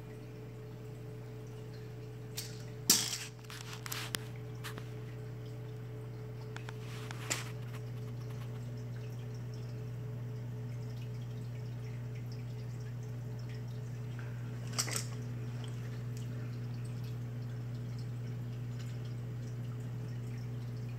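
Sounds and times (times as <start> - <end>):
water trickling and dripping: 0.0 - 20.9.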